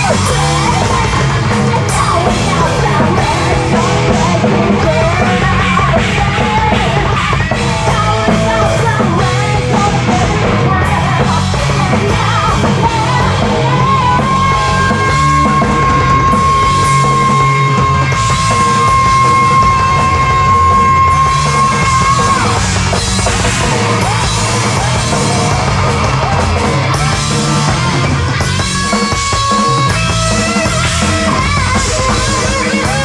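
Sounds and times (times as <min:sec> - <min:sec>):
hard rock band playing live: 0:00.0 - 0:33.0
shouted sung lead vocal: 0:00.0 - 0:33.0.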